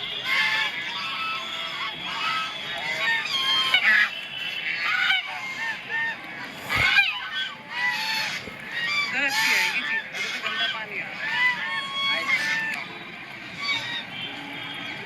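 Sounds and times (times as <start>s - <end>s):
geese honking: 0.0s - 12.8s.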